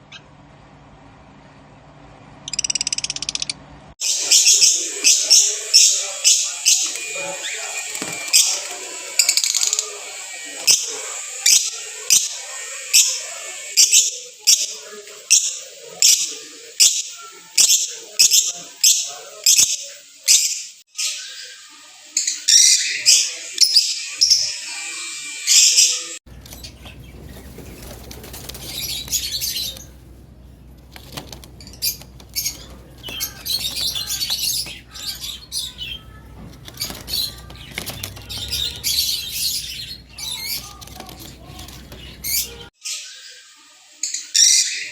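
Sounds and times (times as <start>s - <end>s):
soft bird chatter: 2.4s - 44.9s
lovebirds chirping shrilly: 2.5s - 24.8s, 25.5s - 43.3s.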